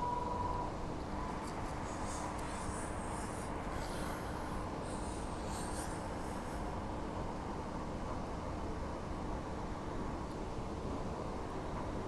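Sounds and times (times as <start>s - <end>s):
train cabin rumble and hum: 0.0s - 12.0s
train whine: 0.0s - 12.0s.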